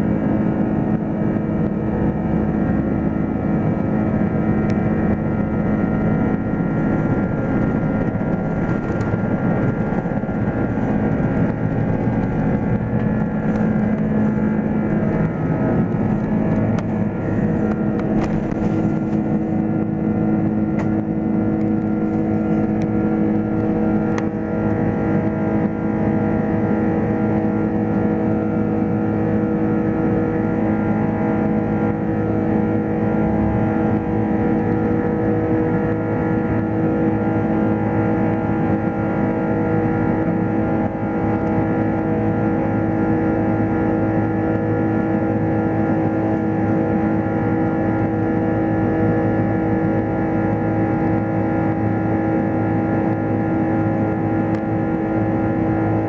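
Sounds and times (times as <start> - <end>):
jet engine noise in cabin: 0.0 - 56.0.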